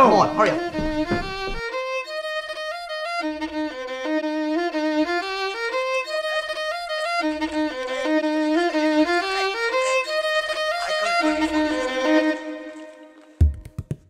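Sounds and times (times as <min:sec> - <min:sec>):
fiddle playing quick melody: 0:00.0 - 0:13.2.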